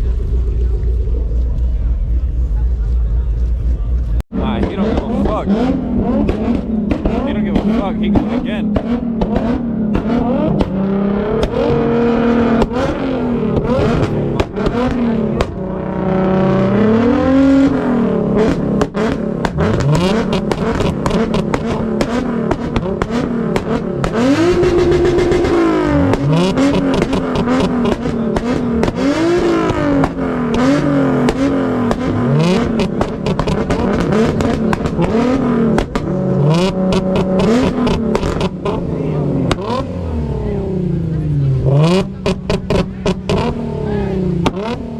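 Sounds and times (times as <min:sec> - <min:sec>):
car engine revving hard: 0:04.4 - 0:44.9.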